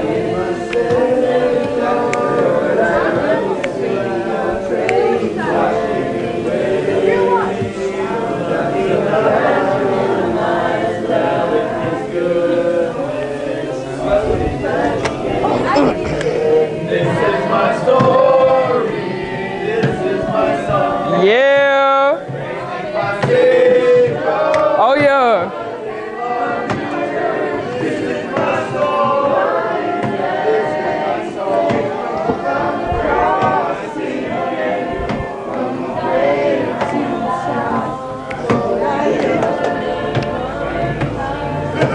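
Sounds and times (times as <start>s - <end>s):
group singing worship song: 0.0s - 41.9s.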